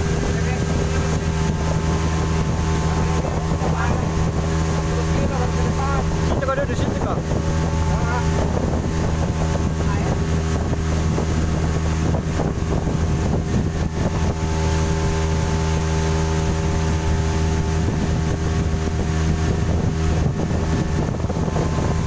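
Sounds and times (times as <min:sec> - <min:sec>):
outboard motor humming: 0:00.0 - 0:22.0
wind buffeting microphone: 0:00.0 - 0:22.0.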